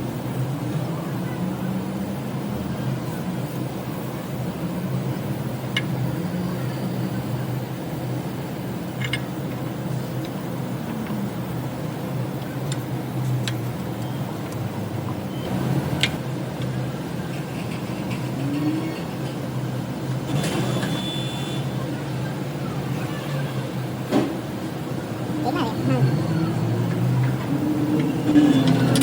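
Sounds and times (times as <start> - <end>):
car engine droning: 0.0 - 29.0.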